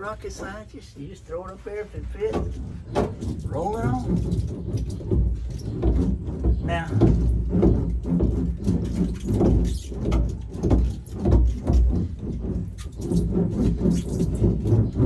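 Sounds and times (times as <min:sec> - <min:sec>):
hand roller rubbing on mat: 0:00.0 - 0:15.0.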